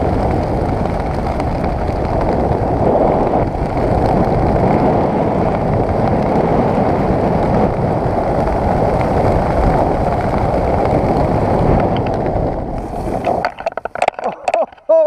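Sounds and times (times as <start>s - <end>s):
wind rushing across microphone: 0.0s - 15.0s.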